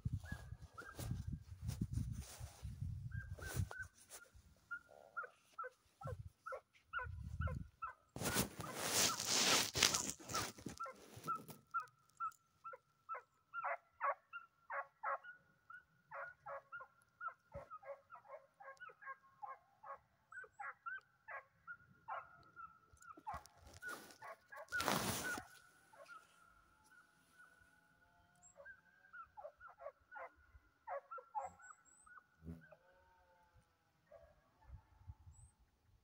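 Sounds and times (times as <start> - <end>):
hounds barking and yelping: 0.1 - 1.2, 2.4 - 27.7, 28.3 - 32.9.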